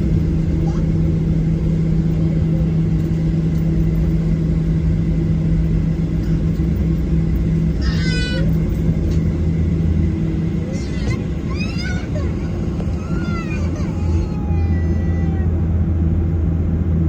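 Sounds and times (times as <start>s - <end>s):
airplane cabin engine rumble: 0.0s - 17.0s
constant low hum: 0.0s - 17.0s.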